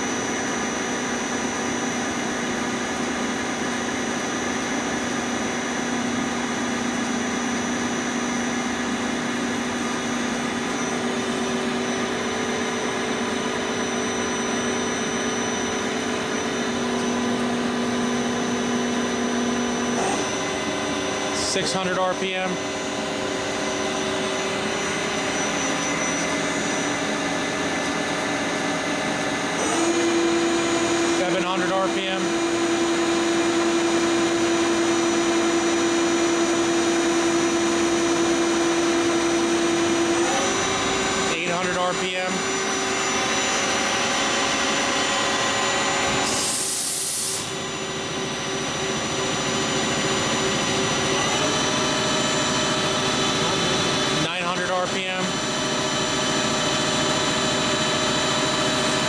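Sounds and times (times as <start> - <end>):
boring mill humming: 0.0 - 59.0.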